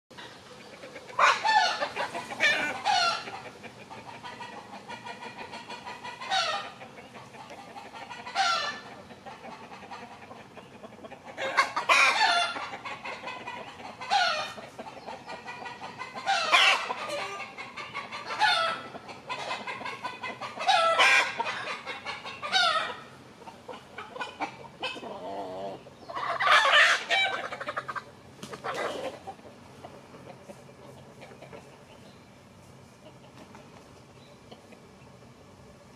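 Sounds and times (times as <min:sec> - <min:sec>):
chickens calling: 0:00.1 - 0:35.9.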